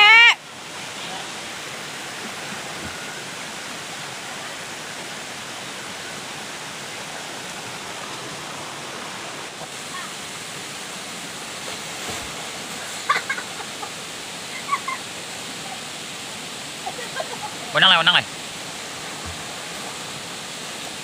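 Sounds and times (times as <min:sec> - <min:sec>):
river water flowing: 0:00.0 - 0:21.0
waterfall rushing: 0:00.0 - 0:21.0.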